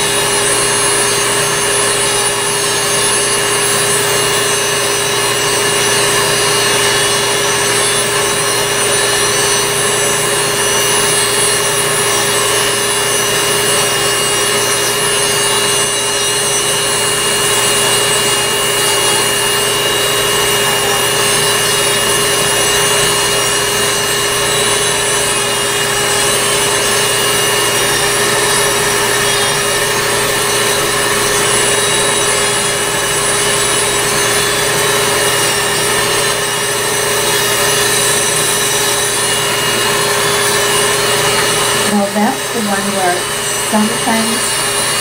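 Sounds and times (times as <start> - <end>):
rotary nail drill whining: 0.0 - 45.0.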